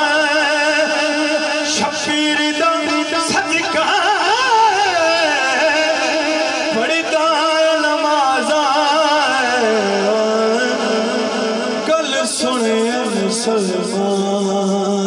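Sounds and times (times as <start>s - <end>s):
man singing through sound system: 0.0s - 15.0s.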